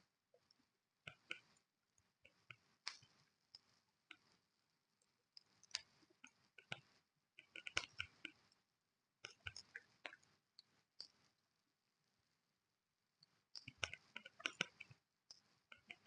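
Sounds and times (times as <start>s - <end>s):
faint clicks and snaps: 0.3s - 11.5s, 13.2s - 16.0s.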